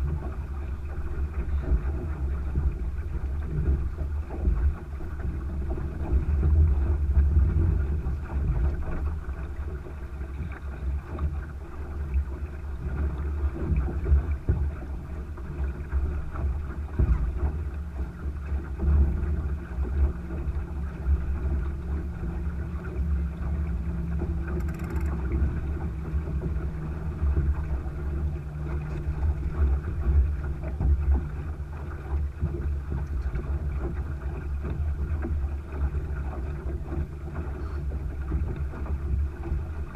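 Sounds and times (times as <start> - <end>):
water rushing along hull: 0.0 - 39.9
wind buffeting microphone: 0.0 - 39.9.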